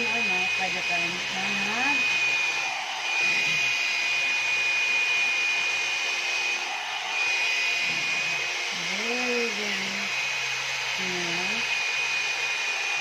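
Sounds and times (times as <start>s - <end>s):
hot-air brush fan whining: 0.0s - 13.0s.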